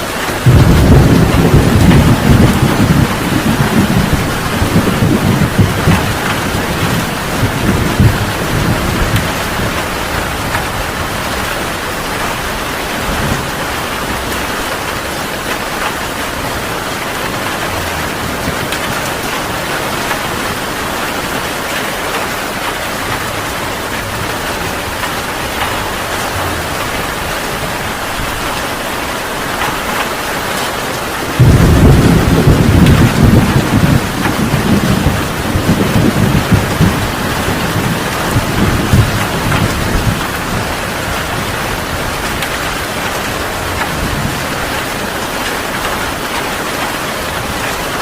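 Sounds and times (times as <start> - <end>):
heavy rain: 0.0 - 48.0
thunder clap: 0.2 - 48.0.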